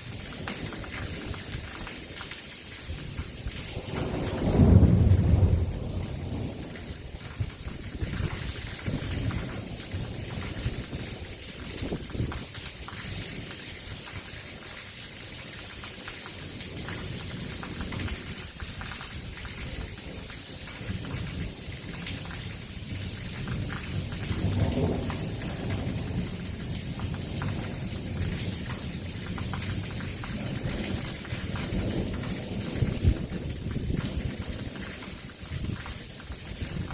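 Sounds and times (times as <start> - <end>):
heavy rain falling: 0.0 - 36.9
thunder rumbling: 3.0 - 12.8, 16.6 - 36.9.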